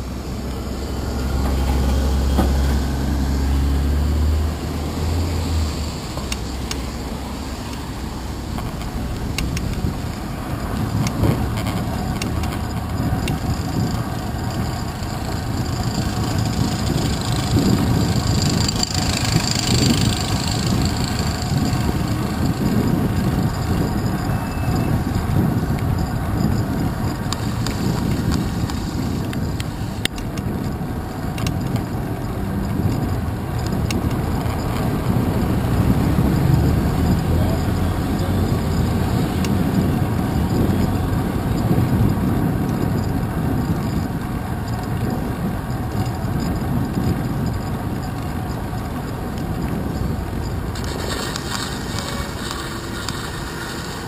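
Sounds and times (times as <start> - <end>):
motor traffic: 0.0 - 54.0
wind and road rumble: 0.0 - 54.0.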